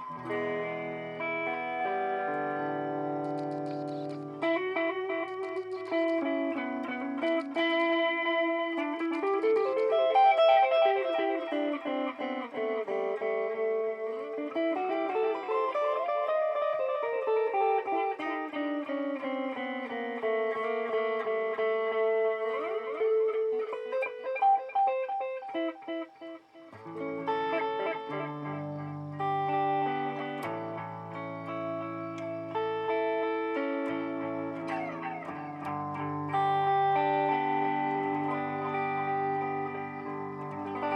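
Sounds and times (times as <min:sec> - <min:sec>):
electric guitar with delay effect: 0:00.0 - 0:40.9.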